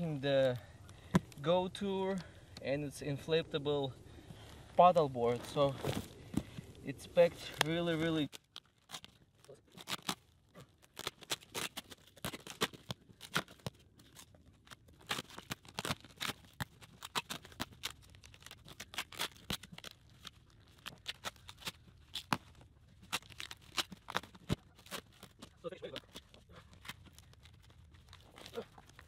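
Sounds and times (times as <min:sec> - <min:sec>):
plastic wrap tearing and crackling: 0:05.2 - 0:29.0.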